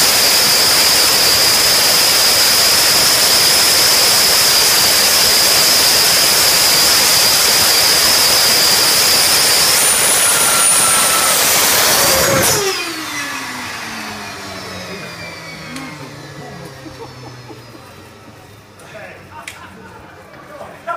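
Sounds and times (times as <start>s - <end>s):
jet turbine roaring and whining: 0.0s - 20.9s.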